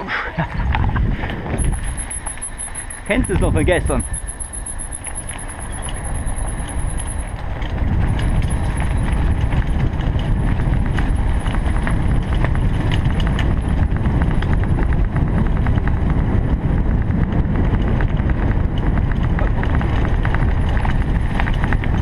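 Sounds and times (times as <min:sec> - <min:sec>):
wind rushing over microphone: 0:00.0 - 0:22.0
bicycle rattling over concrete: 0:00.4 - 0:22.0.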